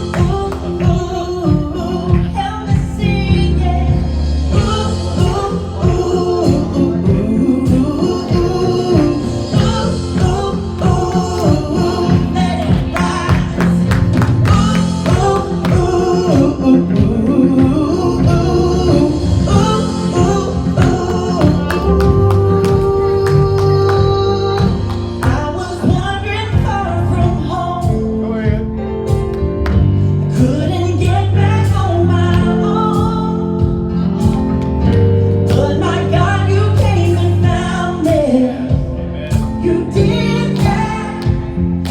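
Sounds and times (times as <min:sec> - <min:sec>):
band playing: 0:00.0 - 0:41.9
gospel singing: 0:00.0 - 0:41.9
held bass notes: 0:00.0 - 0:41.9
steady drum beat: 0:00.0 - 0:41.9.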